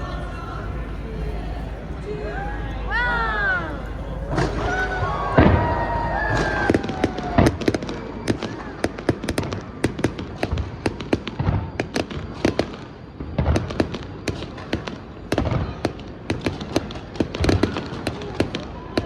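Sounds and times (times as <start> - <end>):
fireworks booming: 0.0 - 18.4.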